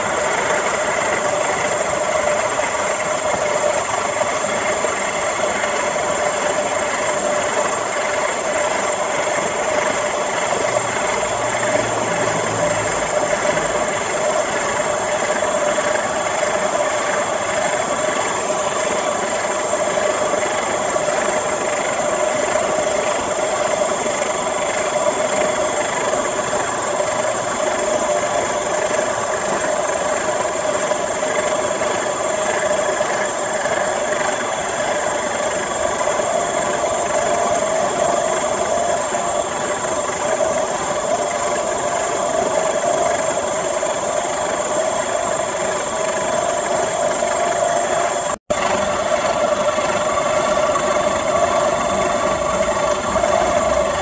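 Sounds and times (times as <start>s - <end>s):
electric water pump motor whining: 0.0s - 54.0s
extruder rattle: 0.0s - 54.0s.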